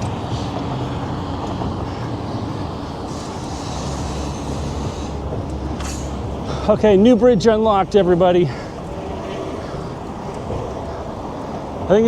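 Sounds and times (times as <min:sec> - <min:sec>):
road traffic rumble: 0:00.0 - 0:12.0
tyre hiss of passing vehicle: 0:00.0 - 0:12.0.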